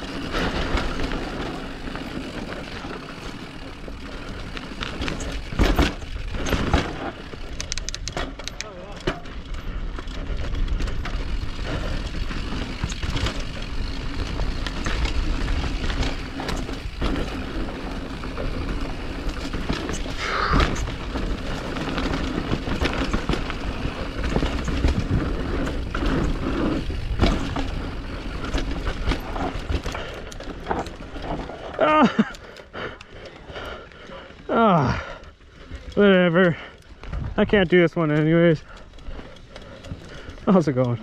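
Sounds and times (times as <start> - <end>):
bike knocking and rattling: 0.0 - 41.0
bike tyre noise: 0.0 - 41.0.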